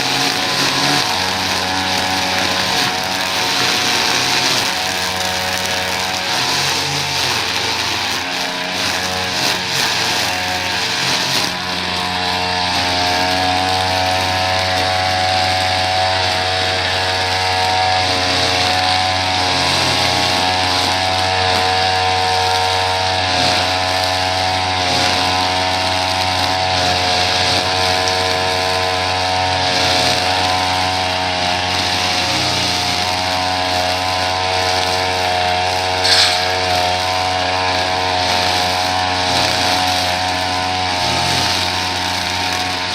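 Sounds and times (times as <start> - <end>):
small petrol engine running: 0.0 - 37.0.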